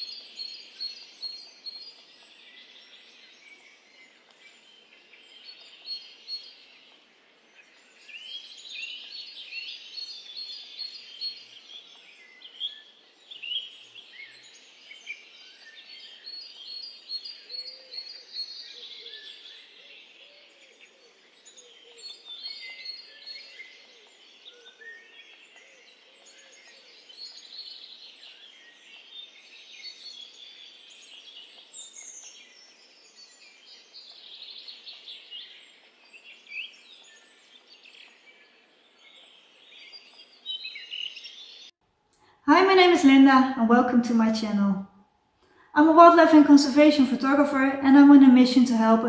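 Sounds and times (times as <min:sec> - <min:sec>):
songbirds chirping and singing: 0:00.0 - 0:41.8.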